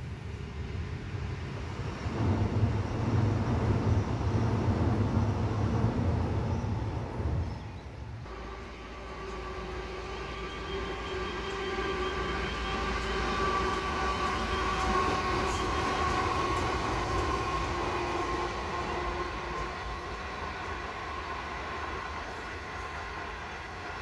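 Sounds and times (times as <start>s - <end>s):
diesel locomotives passing: 0.0s - 24.0s
train carriages rolling past: 0.0s - 24.0s.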